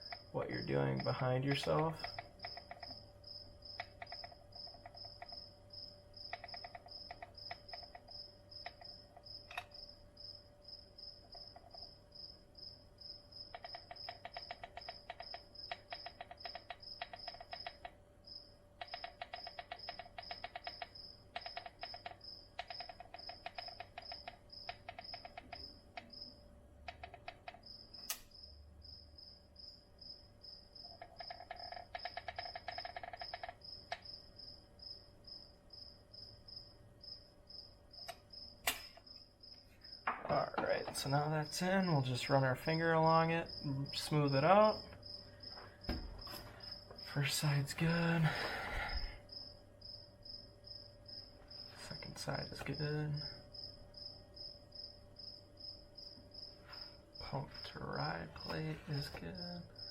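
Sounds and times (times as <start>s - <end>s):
cricket chirping: 0.0s - 59.9s
faint steady hum: 0.0s - 59.9s.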